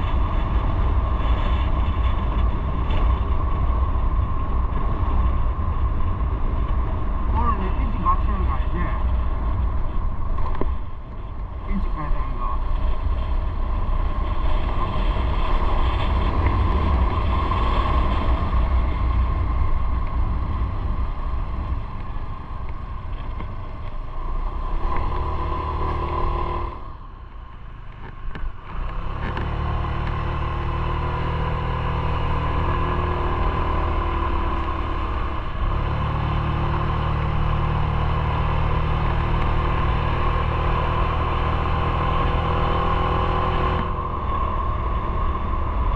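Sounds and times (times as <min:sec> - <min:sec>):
wind noise: 0:00.0 - 0:45.9.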